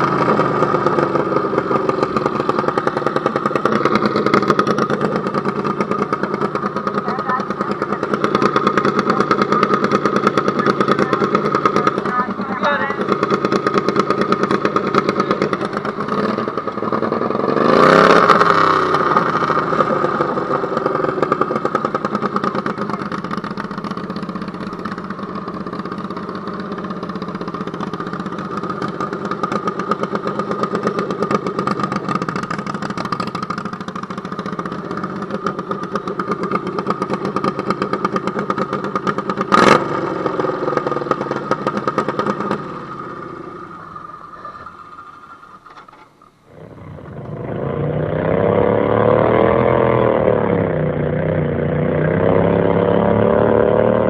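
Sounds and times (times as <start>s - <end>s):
tractor engine running hard: 0.0s - 54.0s.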